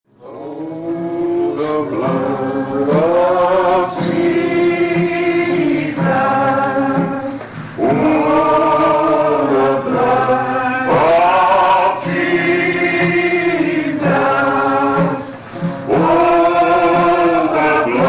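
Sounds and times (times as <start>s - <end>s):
choir singing long held notes: 0.1s - 18.0s.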